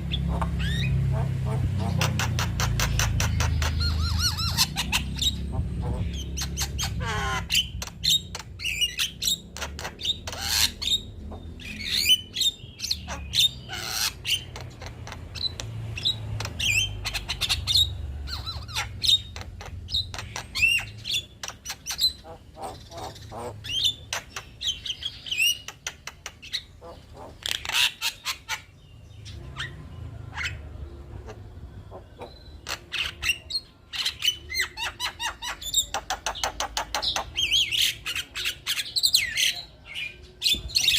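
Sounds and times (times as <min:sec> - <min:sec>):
myna bird singing chatter: 0:00.0 - 0:40.9.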